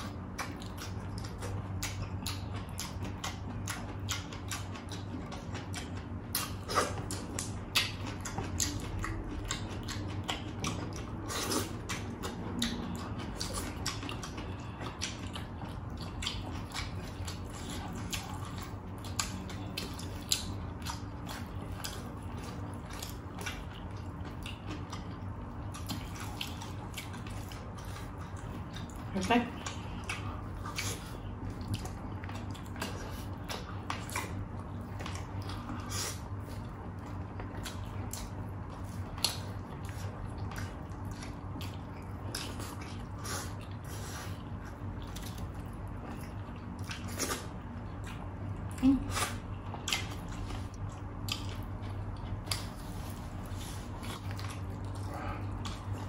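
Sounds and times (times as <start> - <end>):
low steady hum: 0.0 - 56.0
wet chewing and lip-smacking: 0.0 - 56.0.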